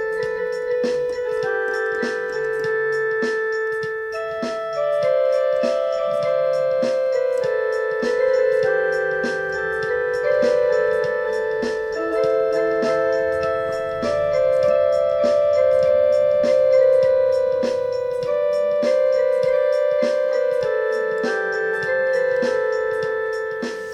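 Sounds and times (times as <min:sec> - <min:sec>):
electric keyboard ringtone melody: 0:00.0 - 0:23.9.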